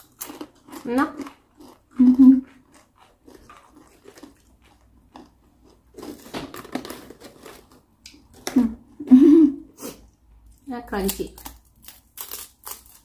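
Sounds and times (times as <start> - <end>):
potato chips crackling: 0.0 - 8.6, 10.6 - 13.0.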